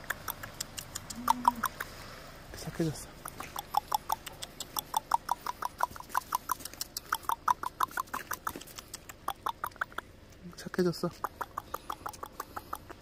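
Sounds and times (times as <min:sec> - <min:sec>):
lip-kissing squeaks: 0:00.0 - 0:02.0, 0:03.2 - 0:10.1, 0:11.2 - 0:13.0.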